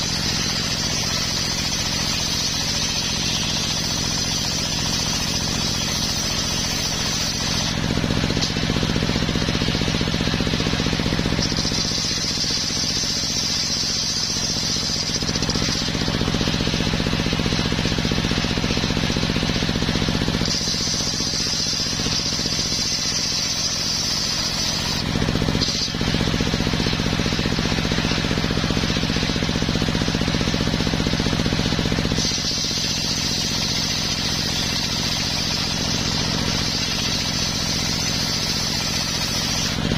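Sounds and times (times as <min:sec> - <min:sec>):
high steady saw whine: 0:00.0 - 0:39.9
sawmill engine running: 0:00.0 - 0:39.9.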